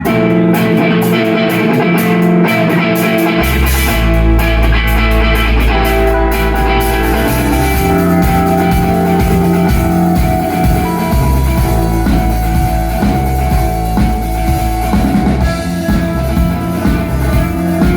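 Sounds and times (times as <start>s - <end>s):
heavy bass line: 0.0s - 17.9s
instrumental rock music: 0.0s - 17.9s.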